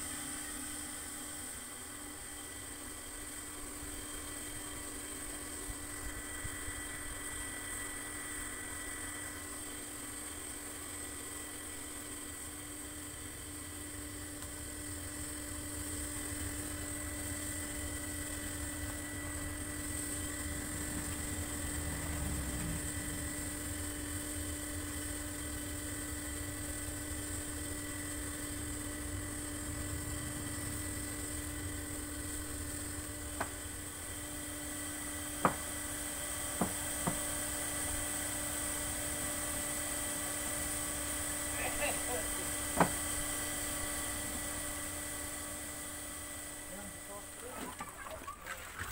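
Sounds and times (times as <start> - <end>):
low rumbling boil: 0.0 - 48.9.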